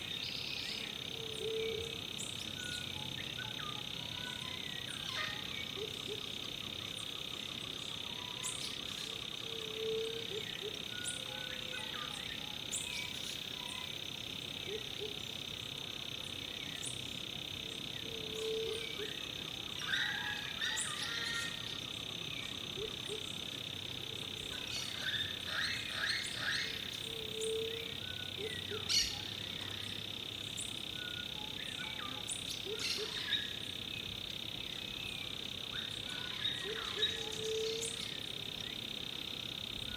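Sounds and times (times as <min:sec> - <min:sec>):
bird chirps: 0:00.0 - 0:14.0, 0:17.7 - 0:23.4, 0:24.5 - 0:38.9
insects and frogs chorus: 0:00.0 - 0:39.9.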